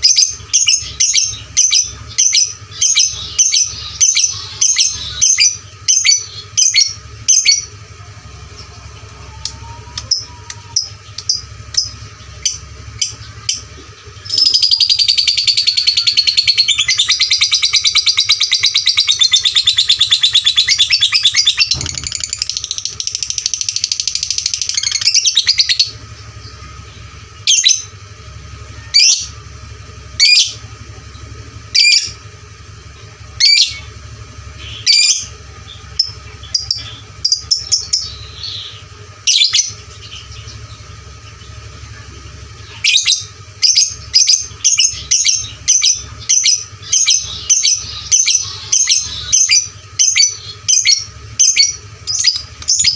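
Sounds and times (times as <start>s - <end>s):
bird chirping: 0.0s - 29.4s, 30.0s - 52.9s
bird chattering trill: 0.0s - 52.9s.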